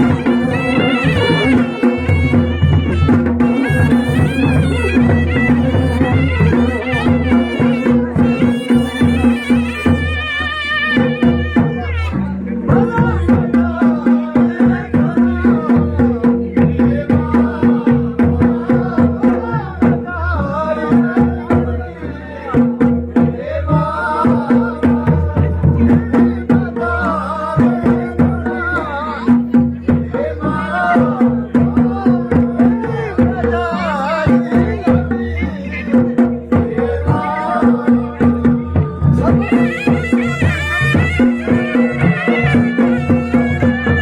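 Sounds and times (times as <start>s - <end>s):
drum beat: 0.0s - 44.0s.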